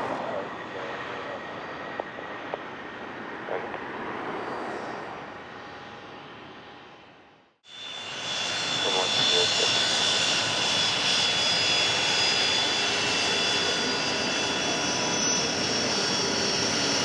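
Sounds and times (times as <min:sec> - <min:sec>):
jet engine rush: 0:00.0 - 0:06.9, 0:07.7 - 0:17.0
jet engine high-pitched whine: 0:00.0 - 0:17.0.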